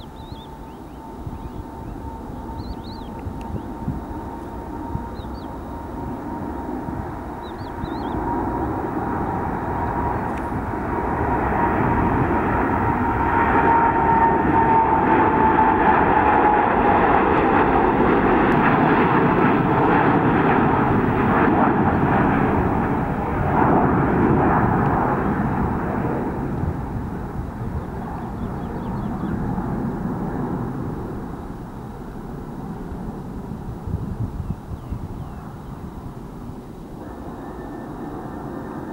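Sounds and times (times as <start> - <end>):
high engine whine: 0.0 - 38.9
jet engines at takeoff: 0.0 - 38.9.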